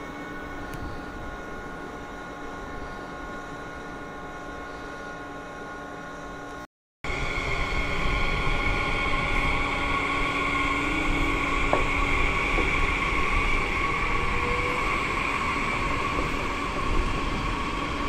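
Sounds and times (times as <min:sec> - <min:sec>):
high-pitched hum: 0:00.0 - 0:18.0
train rumbling: 0:00.0 - 0:18.0.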